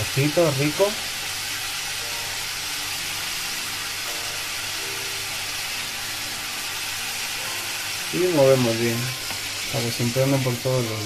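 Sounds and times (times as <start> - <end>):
mushrooms sizzling in a pan: 0.0 - 11.0.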